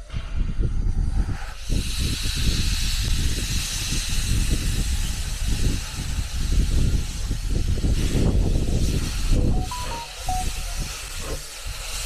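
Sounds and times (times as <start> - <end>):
steam locomotive hissing: 0.8 - 12.0.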